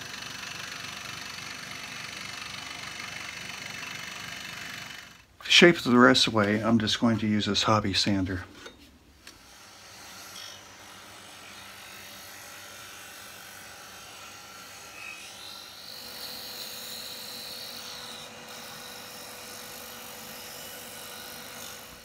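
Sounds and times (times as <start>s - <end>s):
disc sander running: 0.0s - 5.3s, 9.2s - 22.0s.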